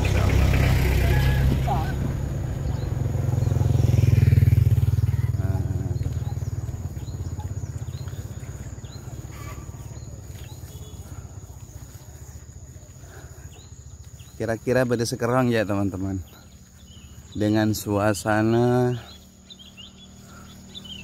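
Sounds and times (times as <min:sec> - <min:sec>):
faint bird or insect chirps: 0:00.0 - 0:21.0
small motorcycle passing: 0:00.0 - 0:21.0.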